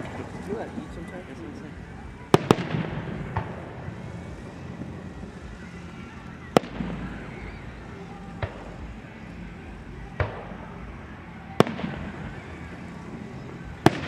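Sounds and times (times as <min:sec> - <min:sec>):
fireworks bursting with bangs: 0:00.0 - 0:14.0.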